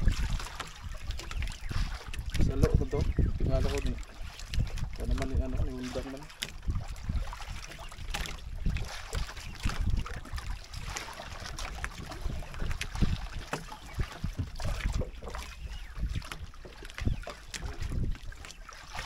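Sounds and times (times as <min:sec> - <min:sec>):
water slapping against boat hull: 0:00.0 - 0:19.0
wind buffeting microphone: 0:00.0 - 0:19.0.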